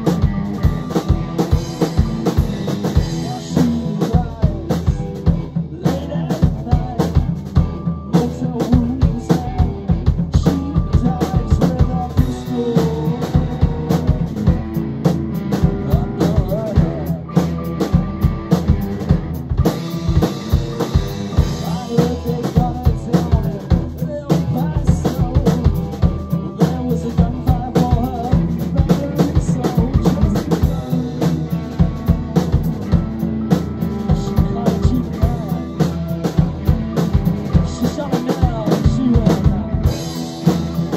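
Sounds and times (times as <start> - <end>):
drum kit beat: 0.0 - 40.9
electric guitars: 0.0 - 40.9
rock band playing live: 0.0 - 40.9.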